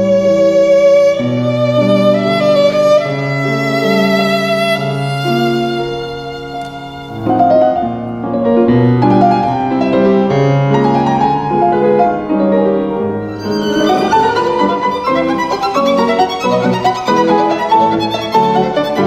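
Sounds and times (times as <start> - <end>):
piano playing: 0.0 - 19.0
violin melody: 0.0 - 19.0.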